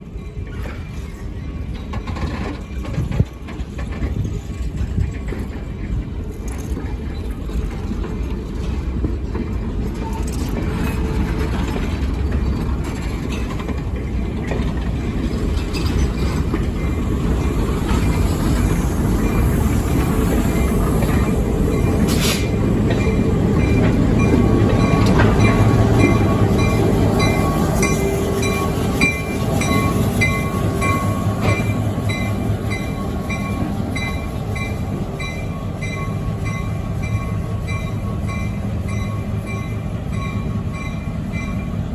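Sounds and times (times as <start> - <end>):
diesel train passing: 0.0 - 41.9.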